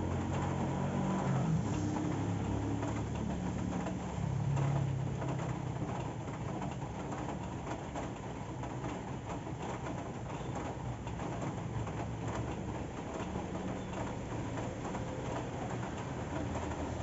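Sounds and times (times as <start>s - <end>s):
steady rain with drips: 0.0s - 17.0s.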